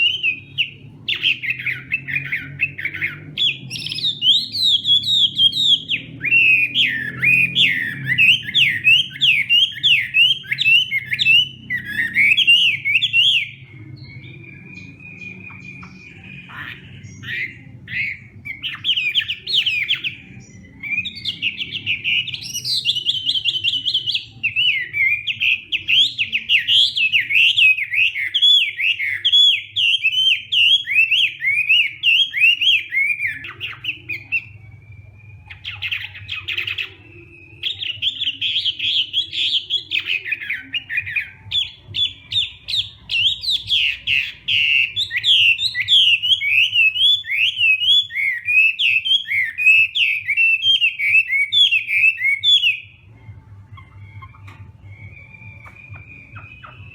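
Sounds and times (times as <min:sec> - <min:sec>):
bird singing whistled phrases: 0:00.0 - 0:56.9.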